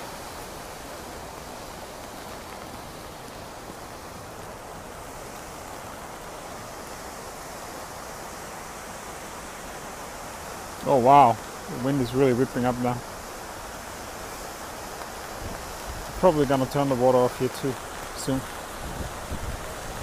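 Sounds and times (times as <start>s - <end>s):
gusting wind: 0.0s - 20.0s
pouring rain: 0.0s - 20.0s
waterfall rushing: 0.0s - 20.0s.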